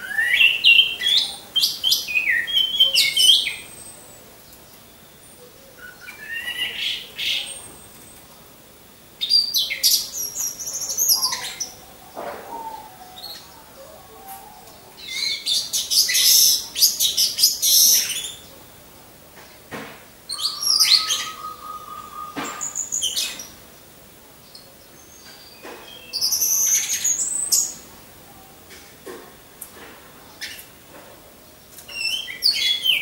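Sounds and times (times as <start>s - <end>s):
thrushes singing: 0.0s - 33.0s.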